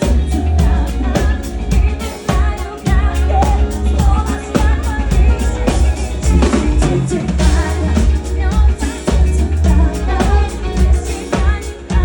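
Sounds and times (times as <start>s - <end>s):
drums: 0.0s - 12.0s
person singing: 0.0s - 12.0s
steady bass line: 0.0s - 12.0s.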